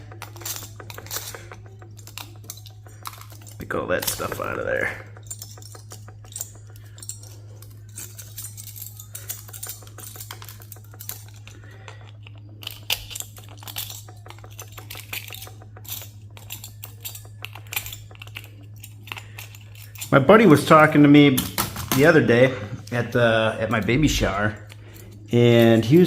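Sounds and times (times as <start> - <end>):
metal parts and tools clinking: 0.0 - 26.0
steady low hum: 0.0 - 26.0.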